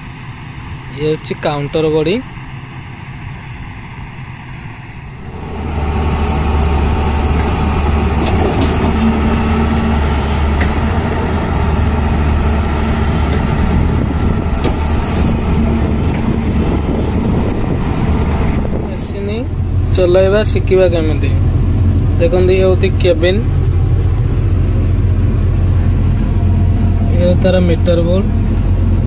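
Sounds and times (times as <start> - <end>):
excavator diesel engine drone: 0.0 - 29.0.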